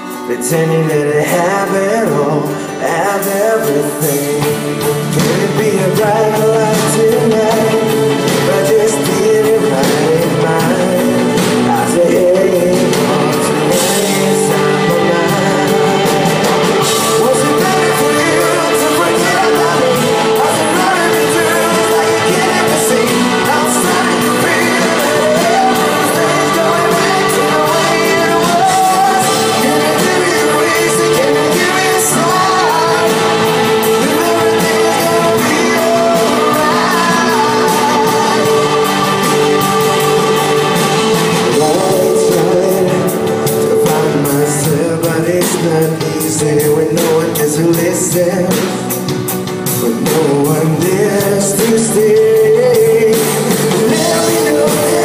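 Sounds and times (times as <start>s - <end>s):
drums: 0.0s - 55.0s
electric guitar: 0.0s - 55.0s
keyboards: 0.0s - 55.0s
live pop-rock band: 0.0s - 55.0s.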